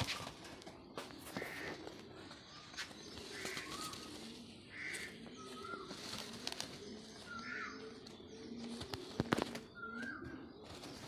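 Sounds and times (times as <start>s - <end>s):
bird calls: 0.0s - 11.0s
pigeons cooing: 0.0s - 11.0s.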